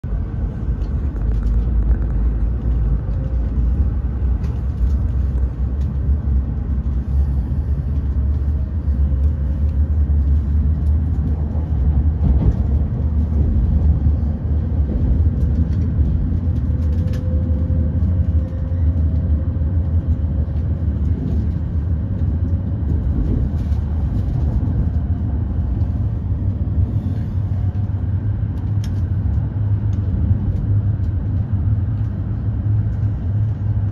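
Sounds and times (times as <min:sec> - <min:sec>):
train rumbling on track: 0:00.0 - 0:33.9.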